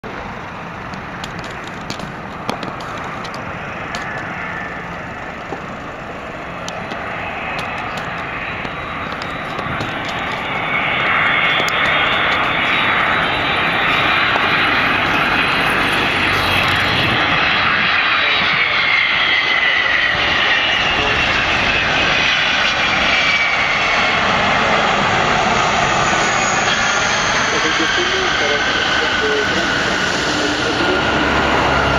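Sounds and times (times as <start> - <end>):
jet airliner flying past: 0.0 - 31.9
jet engine whine: 0.0 - 31.9.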